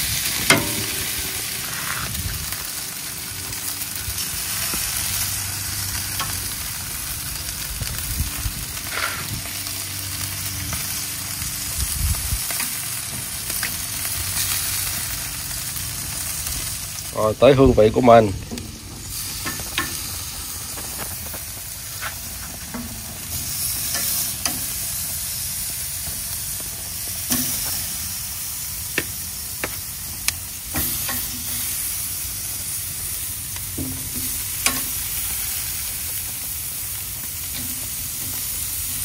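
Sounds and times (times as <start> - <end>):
food sizzling: 0.0 - 39.0.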